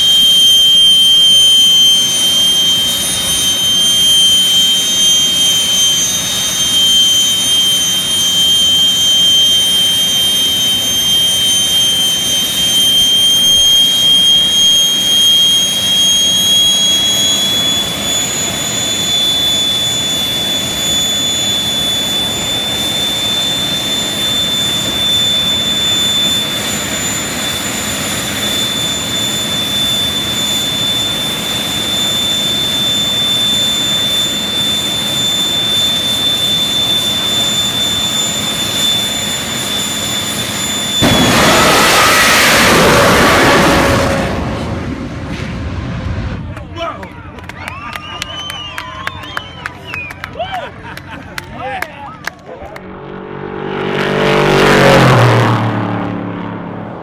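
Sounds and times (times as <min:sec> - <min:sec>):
jet engine whining and roaring: 0:00.0 - 0:57.0.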